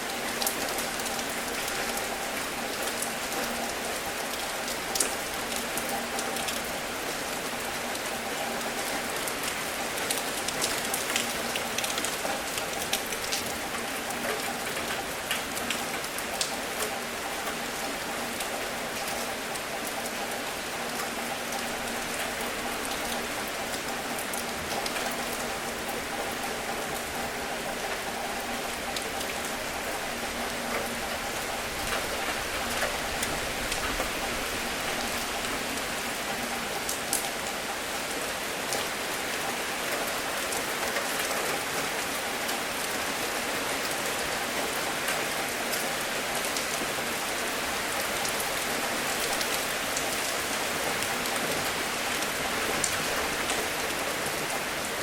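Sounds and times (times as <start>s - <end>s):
rain drops ticking: 0.0s - 55.0s.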